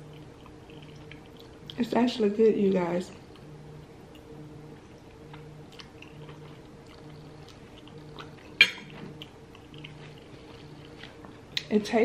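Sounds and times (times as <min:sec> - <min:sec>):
chewing and wet mouth sounds: 0:00.0 - 0:02.0, 0:04.1 - 0:12.0.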